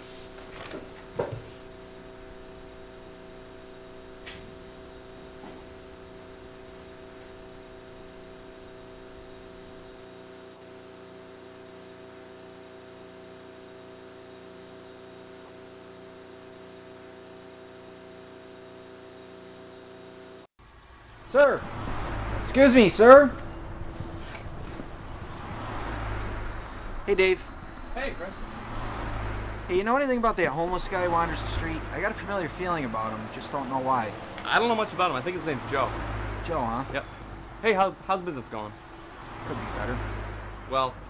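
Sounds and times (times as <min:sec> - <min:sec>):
electrical hum: 0:00.0 - 0:20.5, 0:21.3 - 0:41.0.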